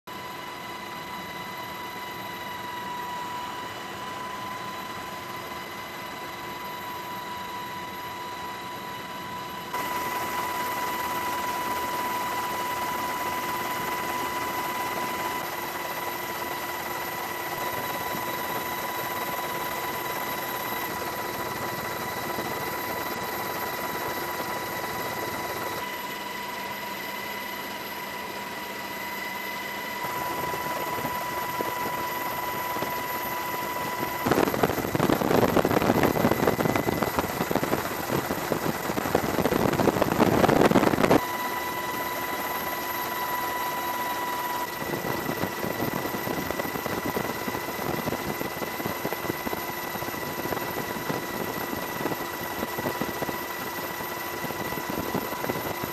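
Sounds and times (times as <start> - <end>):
helicopter engine and rotor: 0.1 - 55.9.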